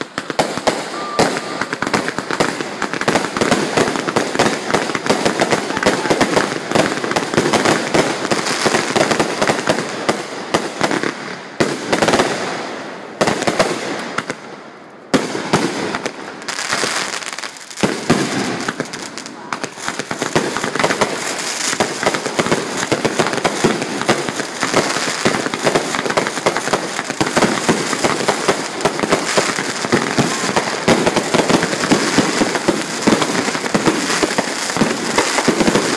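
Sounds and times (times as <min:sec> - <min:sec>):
fireworks shots and crackling bursts: 0:00.0 - 0:35.9.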